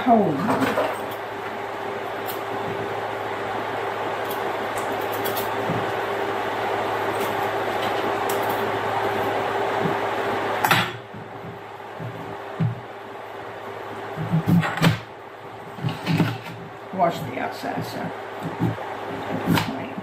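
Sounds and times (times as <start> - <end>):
steady motor hum: 0.0 - 20.0.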